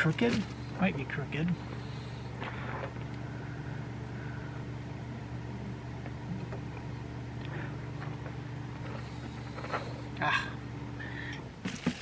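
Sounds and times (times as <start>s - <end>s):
heater humming: 0.0s - 12.0s.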